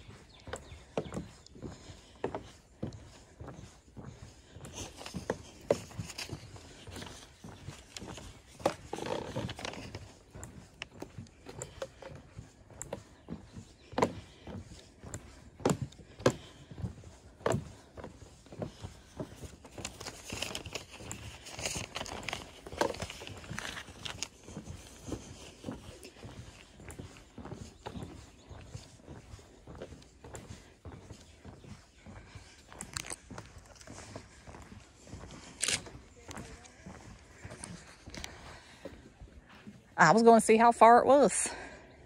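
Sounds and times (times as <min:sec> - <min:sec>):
footsteps on a trail: 0:00.0 - 0:42.0
soft outdoor background: 0:00.0 - 0:42.0.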